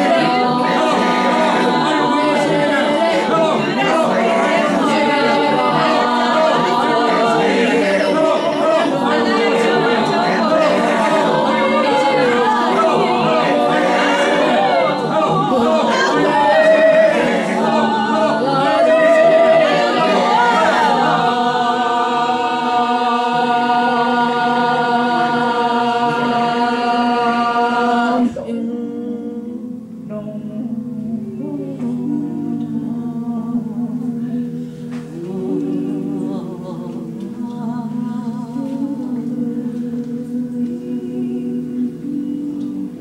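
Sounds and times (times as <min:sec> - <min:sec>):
low voices holding notes: 0:00.0 - 0:43.0
mixed choir singing a cappella: 0:00.0 - 0:43.0.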